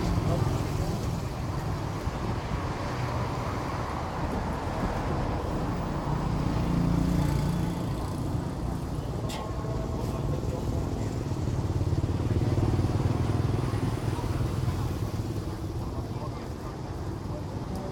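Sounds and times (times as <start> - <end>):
street traffic rumble: 0.0 - 17.9.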